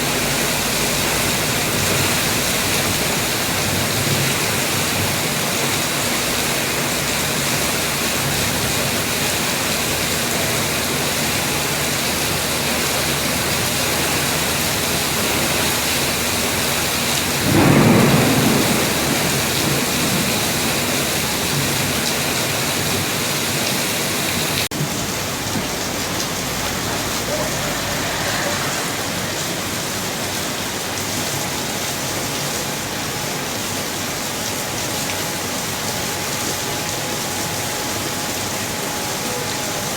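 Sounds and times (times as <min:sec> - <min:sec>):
thunder rumbling: 0:00.0 - 0:32.4
heavy rain pouring: 0:00.0 - 0:39.9.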